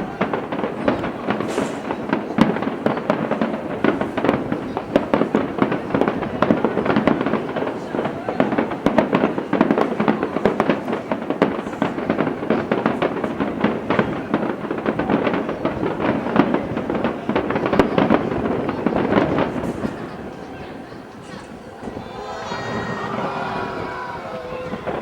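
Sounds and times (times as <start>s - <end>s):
fireworks bursting and crackling: 0.0s - 25.0s.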